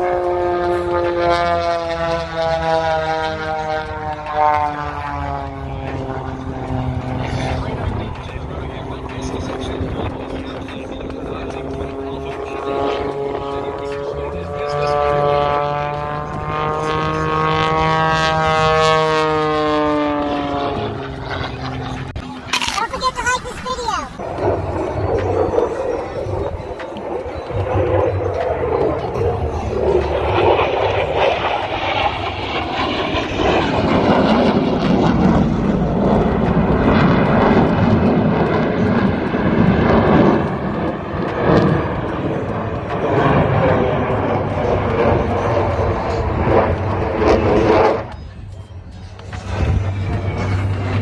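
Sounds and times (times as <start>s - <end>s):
military jet flying overhead: 0.0s - 51.0s
propeller plane engine droning: 0.0s - 51.0s.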